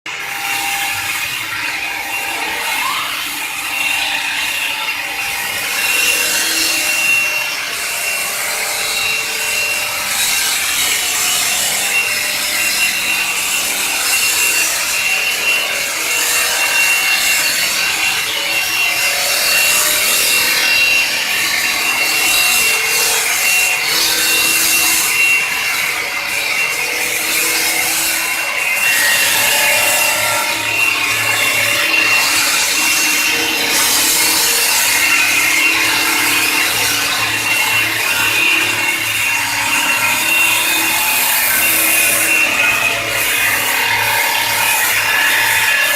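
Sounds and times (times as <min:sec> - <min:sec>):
spindle high whine: 0:00.1 - 0:45.9.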